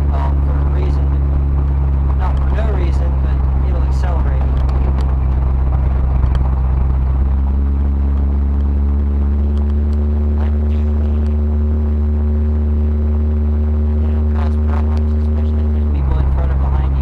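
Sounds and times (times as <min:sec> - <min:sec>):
engine low drone: 0:00.0 - 0:17.0
steady higher hum: 0:00.0 - 0:17.0.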